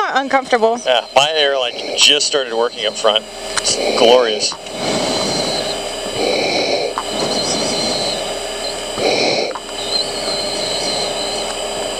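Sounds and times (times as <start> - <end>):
engine and airflow rush: 0.2 - 11.9.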